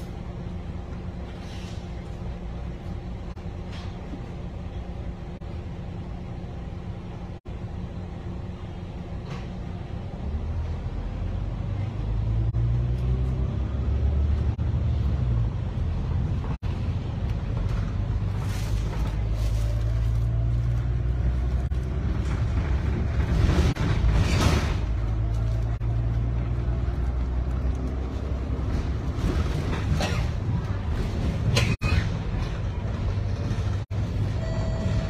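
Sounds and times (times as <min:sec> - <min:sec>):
bus engine rumble with whine: 0:00.0 - 0:35.0.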